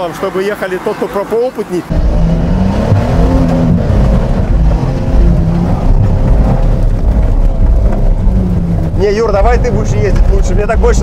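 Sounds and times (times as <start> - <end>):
car engine running under load: 1.8 - 11.0.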